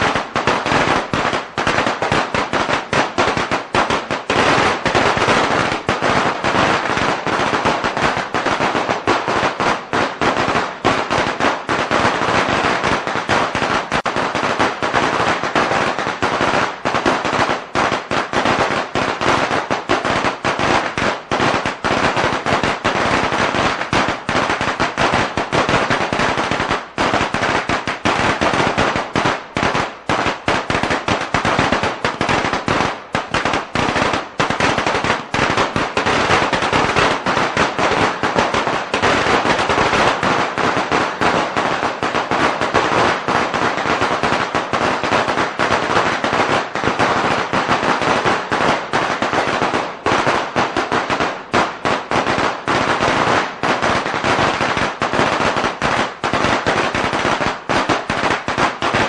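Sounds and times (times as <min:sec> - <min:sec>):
firecrackers going off: 0:00.0 - 0:59.0.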